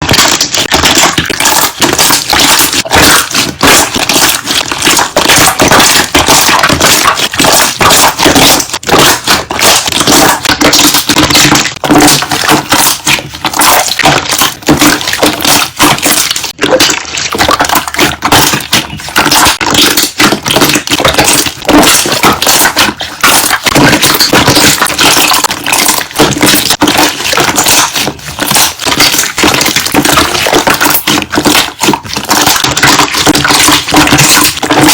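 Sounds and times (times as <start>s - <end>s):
slime air bubbles popping: 0.0s - 34.9s.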